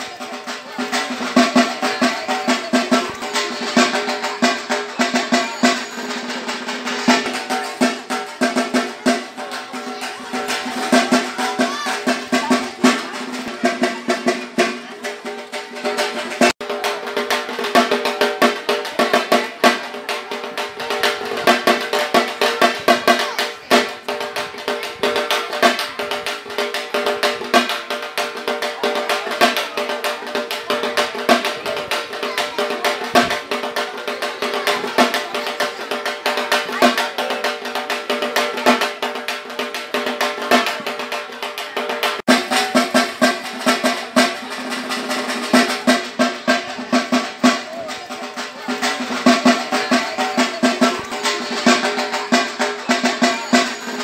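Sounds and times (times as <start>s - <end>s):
fast rolling drumming: 0.0s - 54.0s.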